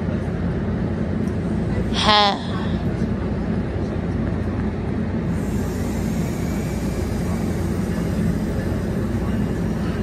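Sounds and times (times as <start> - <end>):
idling train rumble and hum: 0.0 - 10.0.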